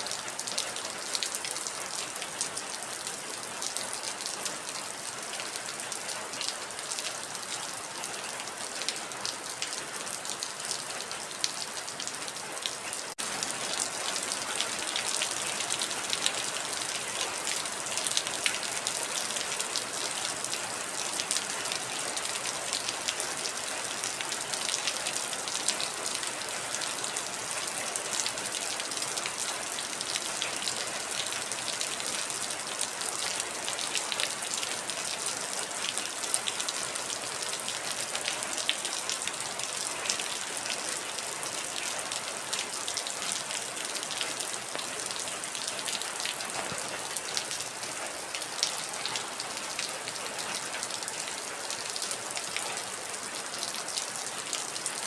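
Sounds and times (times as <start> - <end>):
raindrops ticking on a surface: 0.1 - 55.0.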